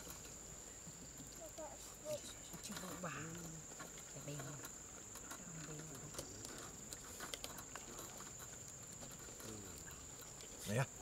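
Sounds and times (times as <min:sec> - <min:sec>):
faint low murmurs: 0:00.6 - 0:11.0.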